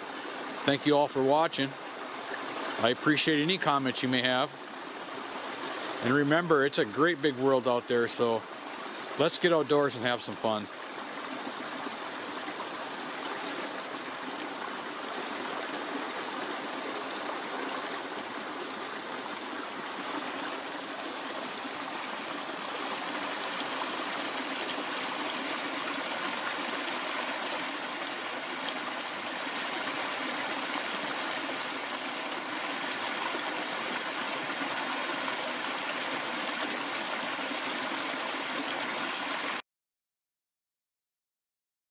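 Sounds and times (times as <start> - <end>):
creek babbling over stones: 0.0 - 39.6.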